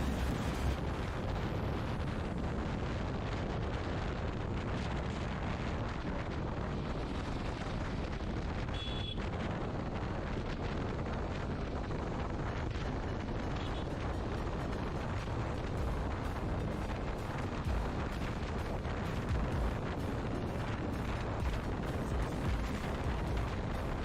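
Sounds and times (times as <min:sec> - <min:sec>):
motorcycle riding at speed: 0:00.0 - 0:24.0
wind buffeting microphone: 0:00.0 - 0:24.0.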